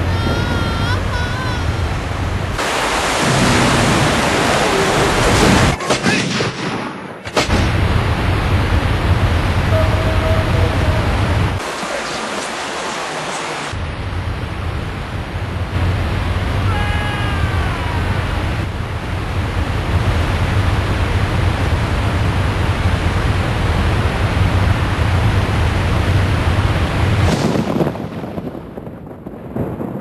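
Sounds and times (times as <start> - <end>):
deep rumble: 0.0 - 5.8, 7.4 - 12.0, 13.7 - 30.0
waterfall roaring: 0.0 - 5.8, 7.5 - 28.4.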